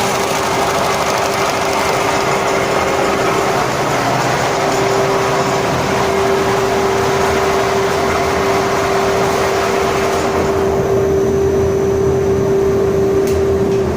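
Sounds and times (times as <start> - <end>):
carpet cleaning machine running: 0.0 - 13.9.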